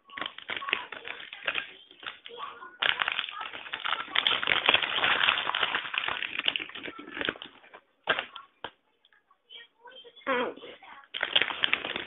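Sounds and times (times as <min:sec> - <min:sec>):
crackling and rustling handling: 0:00.0 - 0:09.2, 0:10.6 - 0:12.0.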